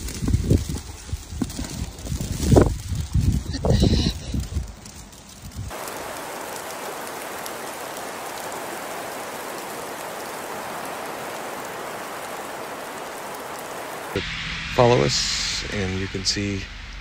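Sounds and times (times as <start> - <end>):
ticks of raindrops: 0.0 - 14.2
heavy rain hiss: 0.0 - 17.0.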